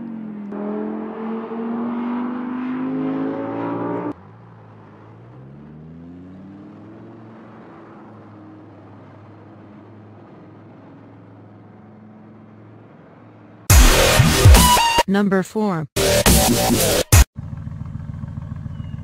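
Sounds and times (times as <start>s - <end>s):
car engine pulling away: 0.0s - 14.2s, 17.4s - 19.0s.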